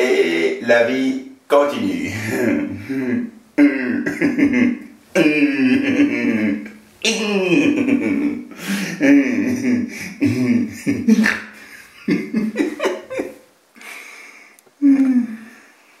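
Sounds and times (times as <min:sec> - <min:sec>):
man making wordless vocal noises: 0:00.0 - 0:12.4, 0:14.8 - 0:15.5.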